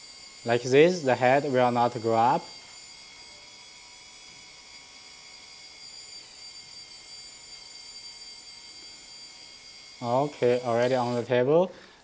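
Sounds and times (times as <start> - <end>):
hydraulic pump motor whine: 0.0 - 12.0.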